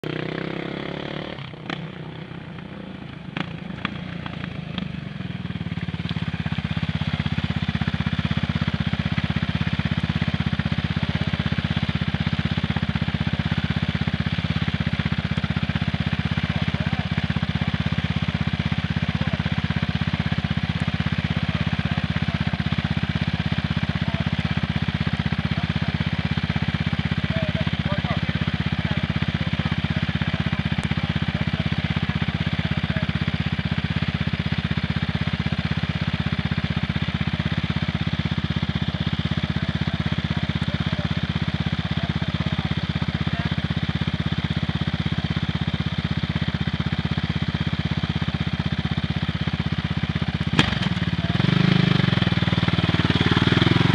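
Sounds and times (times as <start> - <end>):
quad engine idling: 0.0 - 53.9.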